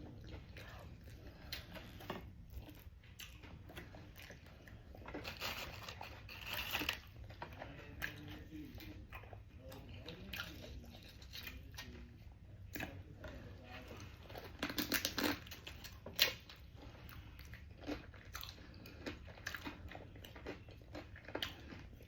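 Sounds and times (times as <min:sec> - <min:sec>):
chewing and crunching food: 0:00.0 - 0:22.0.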